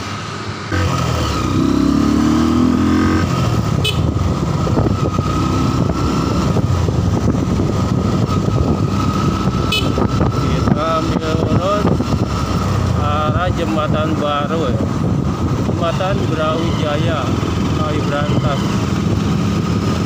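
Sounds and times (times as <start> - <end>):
road and wind noise: 0.0 - 20.0
motorcycle engine running: 0.7 - 20.0.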